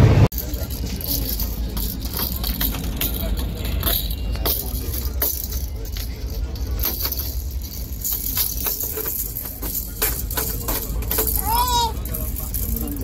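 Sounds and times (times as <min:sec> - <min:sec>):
train low rumble: 0:00.0 - 0:13.0
jangling clicks and rattles: 0:00.3 - 0:13.0.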